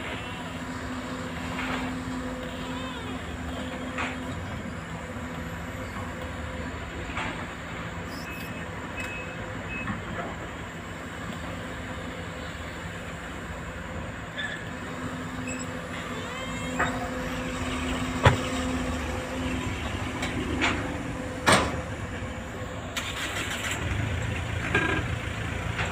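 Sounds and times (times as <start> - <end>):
excavator diesel engine running: 0.0 - 25.9.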